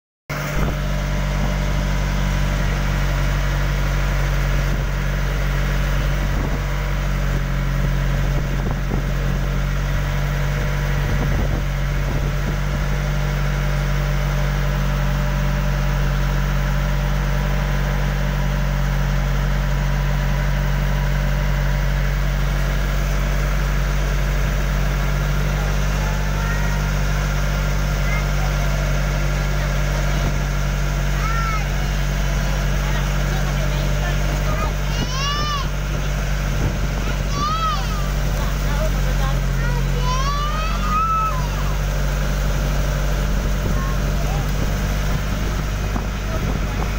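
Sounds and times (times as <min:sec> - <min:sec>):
boat engine droning: 0:00.3 - 0:46.9.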